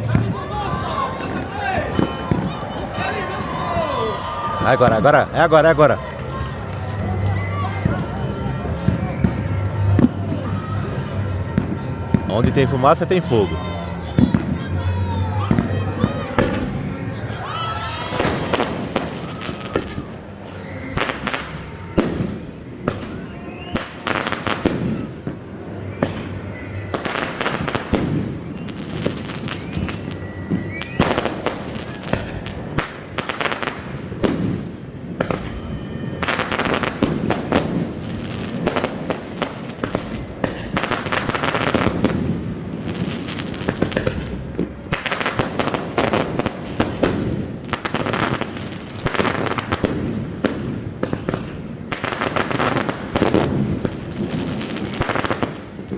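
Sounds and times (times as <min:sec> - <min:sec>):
fireworks bangs and crackling: 0:00.0 - 0:17.4, 0:18.0 - 0:55.9.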